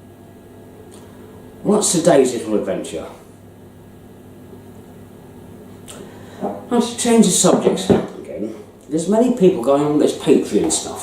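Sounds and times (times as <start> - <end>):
amplifier mains hum: 0.0 - 11.0.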